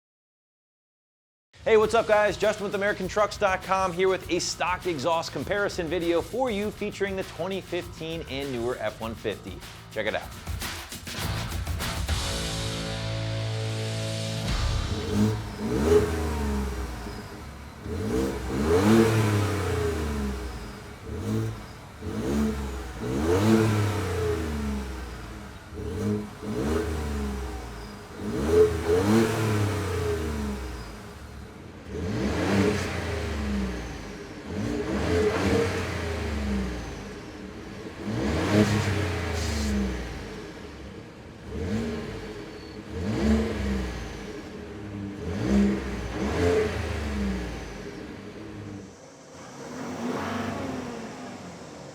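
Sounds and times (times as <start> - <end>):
truck engine revving: 1.8 - 51.9.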